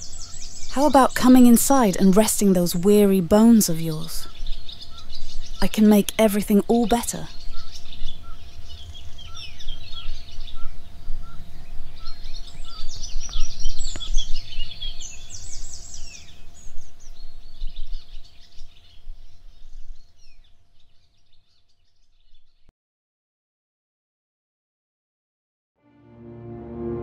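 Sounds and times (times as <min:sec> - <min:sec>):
birds chirping and singing: 0:00.0 - 0:22.7.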